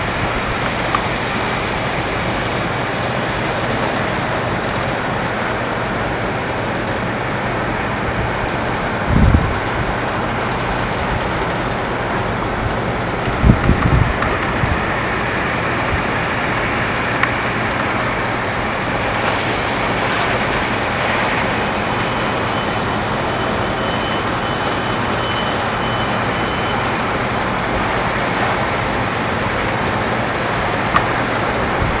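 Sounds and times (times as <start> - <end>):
aircraft engines running: 0.0 - 32.0.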